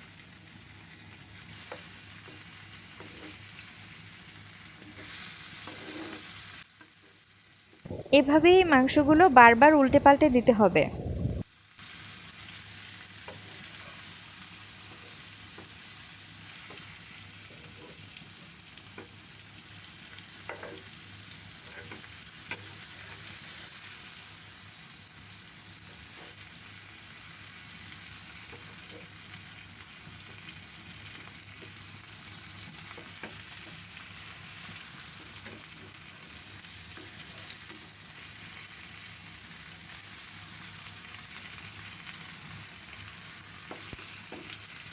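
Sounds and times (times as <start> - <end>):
chicken sizzling in oil: 0.0 - 7.7, 11.5 - 44.9.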